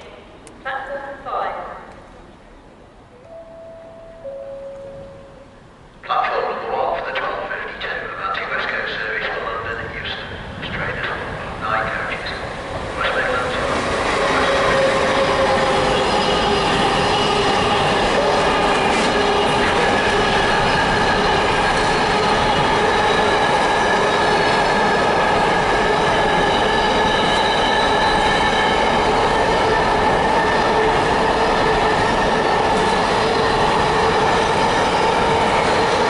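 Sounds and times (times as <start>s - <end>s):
train wheels on rail: 7.0s - 36.0s.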